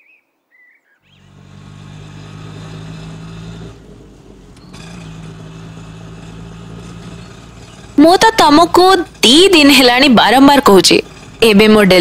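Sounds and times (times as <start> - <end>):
auto-rickshaw engine droning: 1.0 - 12.0.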